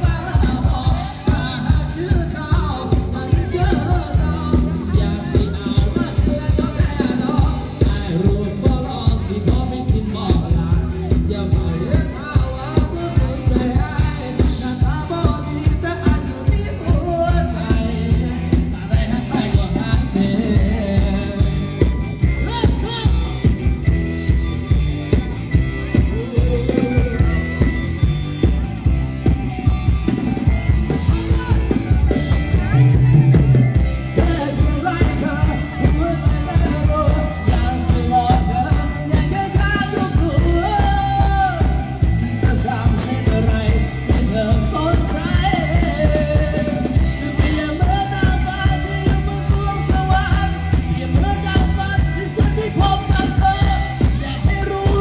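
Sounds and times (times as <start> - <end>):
live band dance music: 0.0 - 55.0
person singing: 0.0 - 55.0
steady drum beat: 0.0 - 55.0.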